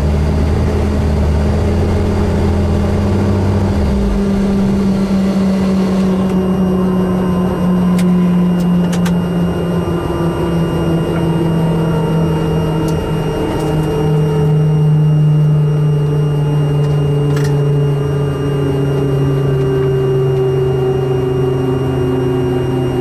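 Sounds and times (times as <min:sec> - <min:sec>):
deep drone: 0:00.0 - 0:23.0
helicopter engine hum: 0:00.0 - 0:23.0.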